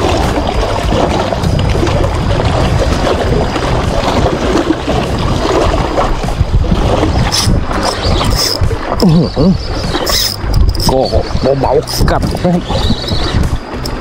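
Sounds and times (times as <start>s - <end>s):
boat motor humming: 0.0s - 14.0s
wind buffeting microphone: 0.0s - 14.0s.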